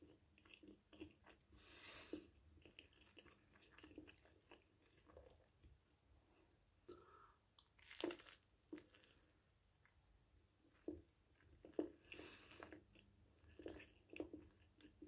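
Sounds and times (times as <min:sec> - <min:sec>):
chewing crunchy bread: 0:00.0 - 0:06.0, 0:07.6 - 0:10.0, 0:10.6 - 0:15.0.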